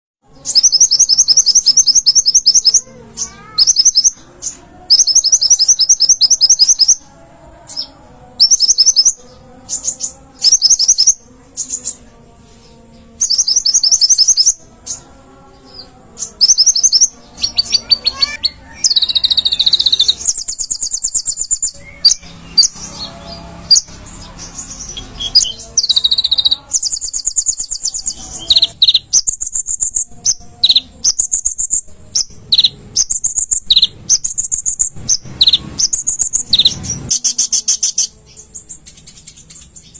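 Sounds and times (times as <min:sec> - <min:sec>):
songbird trilling: 0:00.4 - 0:07.0, 0:07.7 - 0:12.0, 0:13.2 - 0:15.0, 0:16.2 - 0:39.9.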